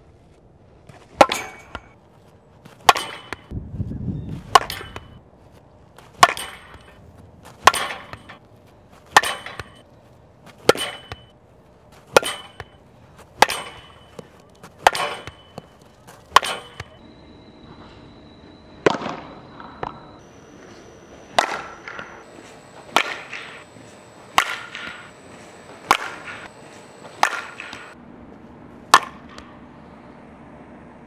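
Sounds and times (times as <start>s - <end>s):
bat hitting softballs: 0.9s - 2.0s, 2.6s - 3.6s, 4.3s - 17.0s, 18.8s - 28.0s, 28.8s - 29.6s.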